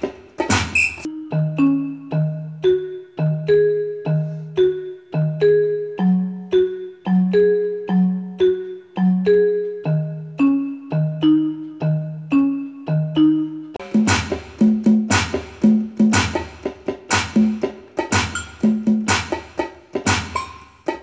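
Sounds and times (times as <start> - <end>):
bouncy keyboard tune: 0.0 - 21.0.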